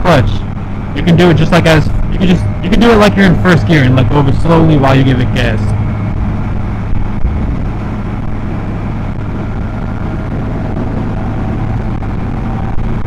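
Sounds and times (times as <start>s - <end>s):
motorcycle engine cruising: 0.0s - 13.0s
wind noise: 0.0s - 13.0s.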